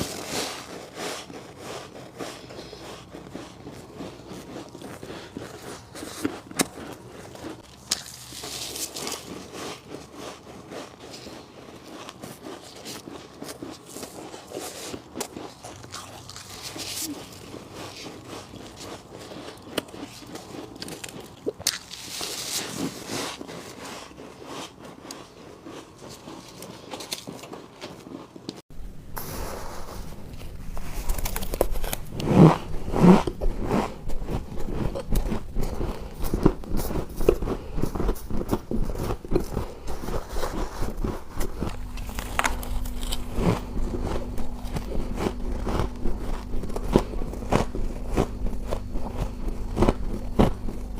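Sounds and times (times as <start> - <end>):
ice being bitten and chewed: 0.0 - 28.6, 30.1 - 50.9.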